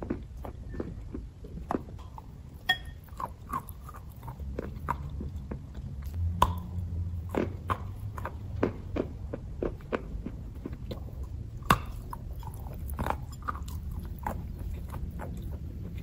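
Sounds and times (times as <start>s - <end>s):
chalk crunching while chewed: 0.0s - 16.0s.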